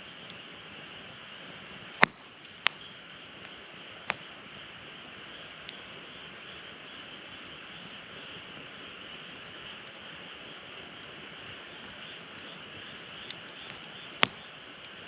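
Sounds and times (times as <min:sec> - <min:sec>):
wood fire crackling: 0:00.0 - 0:15.0
fire pops: 0:00.2 - 0:15.0.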